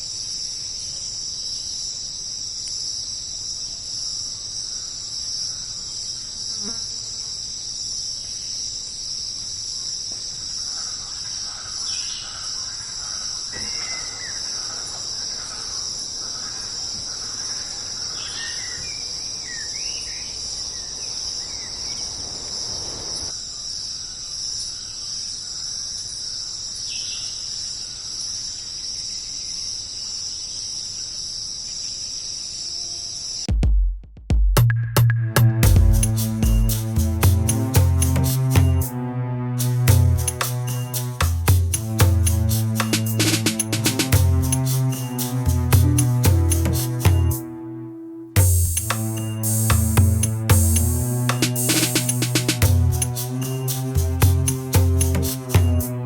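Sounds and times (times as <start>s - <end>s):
insects chirring: 0.0s - 33.5s, 39.7s - 47.6s, 48.4s - 56.0s.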